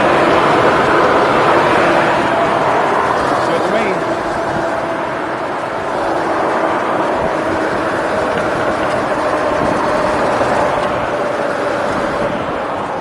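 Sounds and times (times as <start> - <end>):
belt whine: 0.0 - 13.0
engine idling: 0.0 - 13.0.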